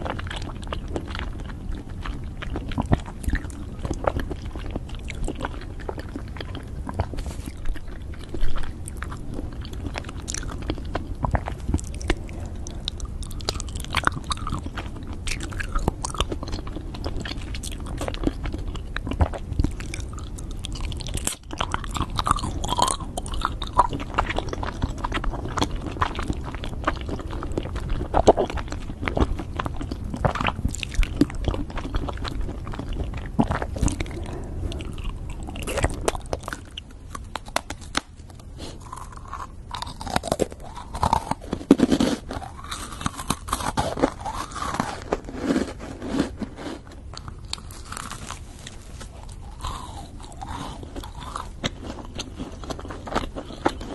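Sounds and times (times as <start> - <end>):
crunchy mouth noises: 0.0 - 53.9
wet biting and chewing: 0.0 - 53.9.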